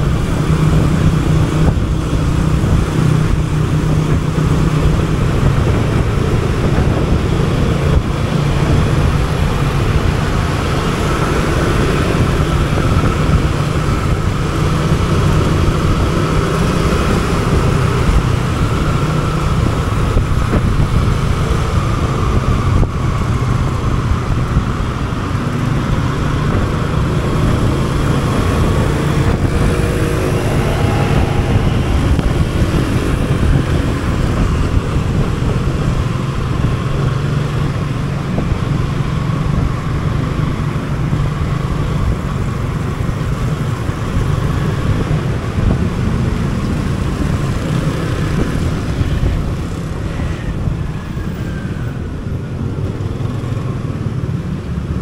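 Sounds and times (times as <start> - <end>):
motorcycle engine running: 0.0 - 51.0
road and traffic noise: 0.0 - 55.0
vehicle accelerating: 0.0 - 55.0.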